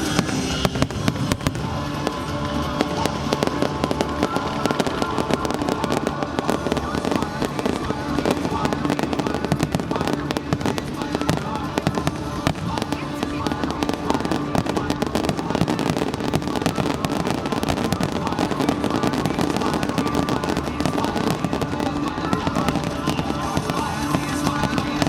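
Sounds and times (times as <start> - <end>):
fireworks bangs and crackles: 0.0 - 25.0
music: 0.0 - 25.0.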